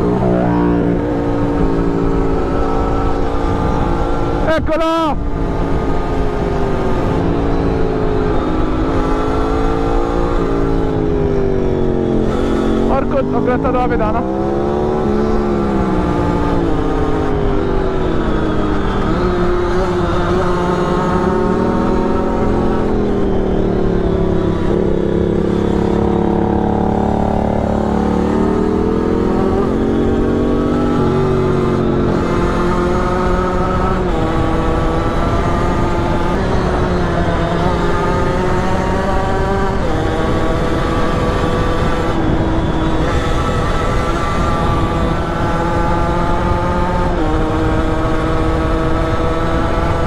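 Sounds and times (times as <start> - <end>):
wind rushing over microphone: 0.0 - 50.0.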